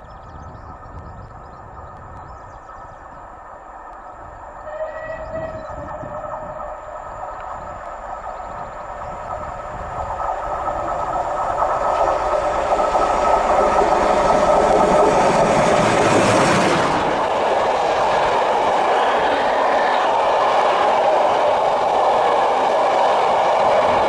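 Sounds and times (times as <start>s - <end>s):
steam train approaching: 0.0s - 24.0s
train wheels on rails: 0.0s - 24.0s.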